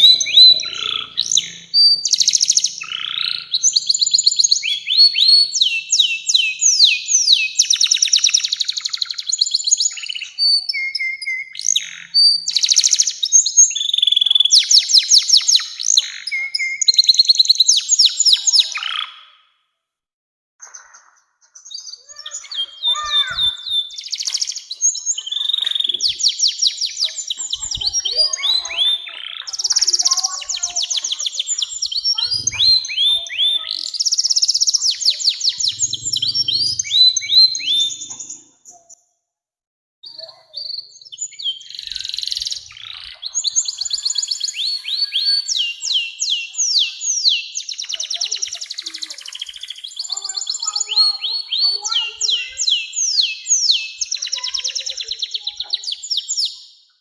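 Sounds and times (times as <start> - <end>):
canary singing trills: 0.0 - 19.6, 20.6 - 39.0, 40.0 - 57.0.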